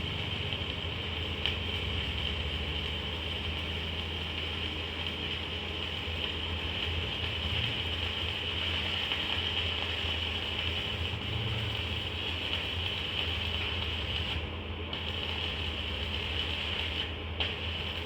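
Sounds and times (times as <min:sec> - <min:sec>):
machinery humming and hissing: 0:00.0 - 0:18.0.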